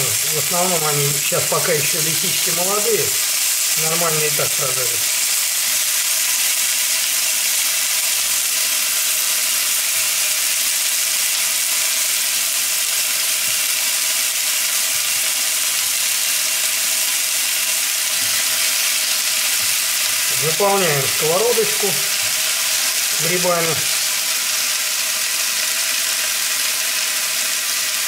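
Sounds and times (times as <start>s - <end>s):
mushrooms sizzling in oil: 0.0s - 28.0s.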